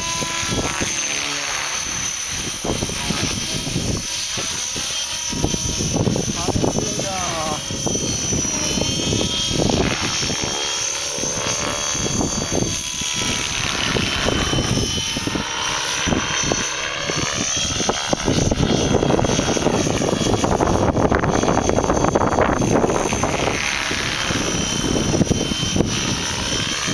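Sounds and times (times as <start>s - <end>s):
model helicopter rotor whine: 0.0s - 26.9s
wind noise on microphone: 0.0s - 26.9s.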